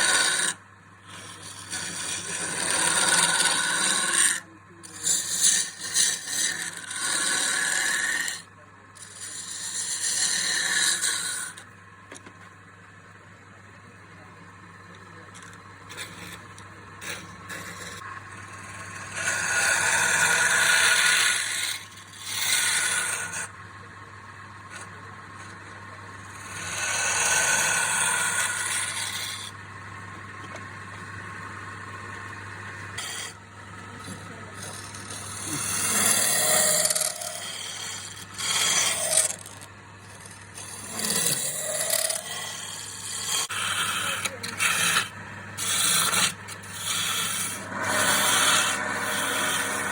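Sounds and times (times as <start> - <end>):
tool scraping spinning wood: 0.0 - 12.5, 14.7 - 49.9
low steady hum: 0.0 - 49.9.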